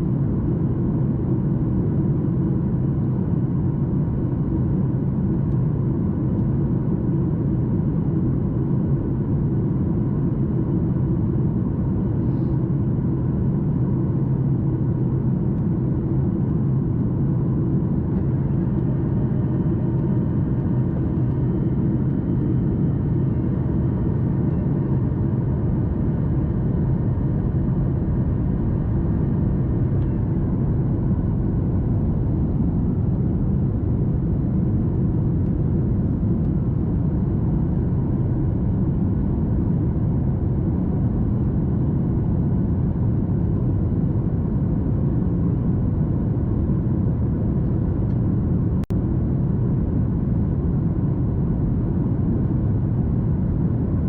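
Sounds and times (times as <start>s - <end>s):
airliner engine rumble: 0.0s - 54.0s
faint steady whine: 0.0s - 54.0s.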